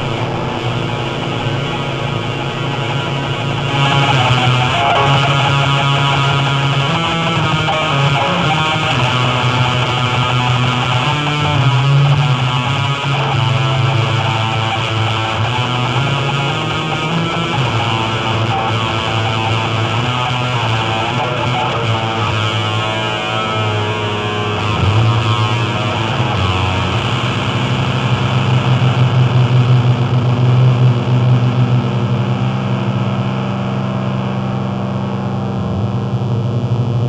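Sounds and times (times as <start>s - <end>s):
distorted noise music: 0.0s - 37.0s
heavy low drone: 0.0s - 37.0s.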